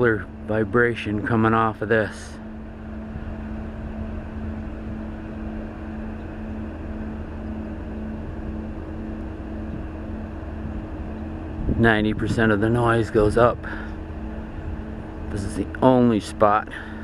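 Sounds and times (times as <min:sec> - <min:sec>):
droning tones: 0:00.0 - 0:17.0
low industrial hum: 0:00.0 - 0:17.0.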